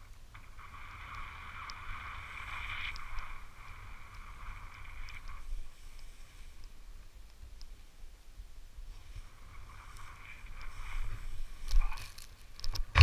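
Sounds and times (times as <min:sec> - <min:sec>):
skis sliding over snow: 0:00.0 - 0:07.9, 0:08.7 - 0:13.0
wind rumble on microphone: 0:00.0 - 0:13.0.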